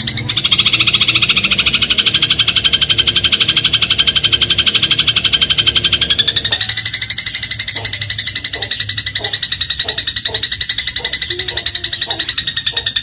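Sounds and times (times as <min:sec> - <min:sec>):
sparrow rattling call: 0:00.0 - 0:13.0.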